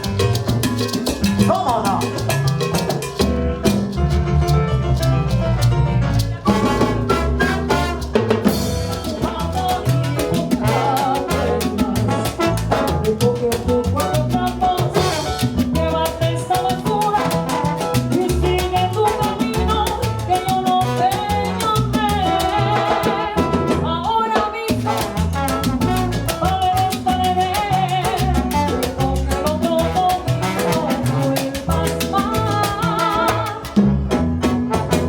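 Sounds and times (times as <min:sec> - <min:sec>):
live salsa band playing: 0:00.0 - 0:35.0.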